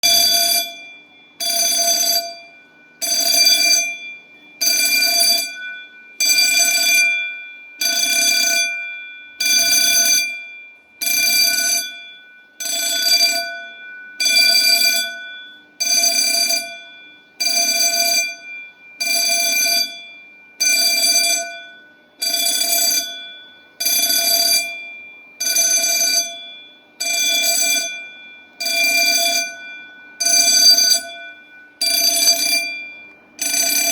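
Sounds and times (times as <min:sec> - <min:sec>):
fire alarm bell ringing: 0:00.0 - 0:33.9.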